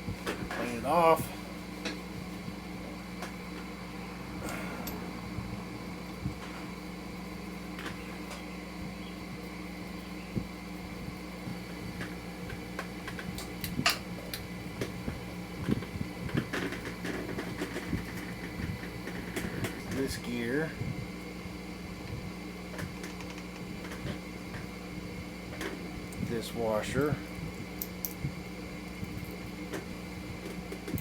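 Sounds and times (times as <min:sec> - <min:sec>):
machine hum: 0:00.0 - 0:31.0.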